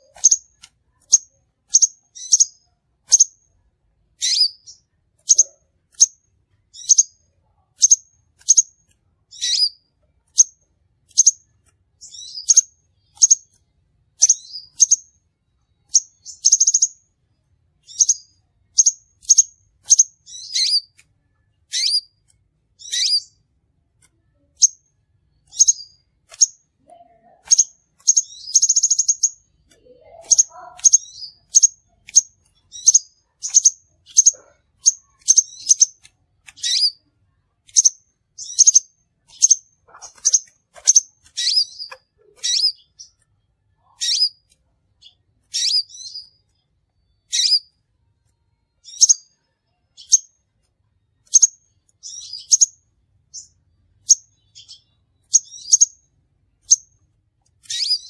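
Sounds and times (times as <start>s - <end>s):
bird high-pitched chirps: 0.0s - 3.6s, 4.2s - 17.2s, 17.8s - 47.8s, 48.7s - 50.5s, 51.2s - 58.0s.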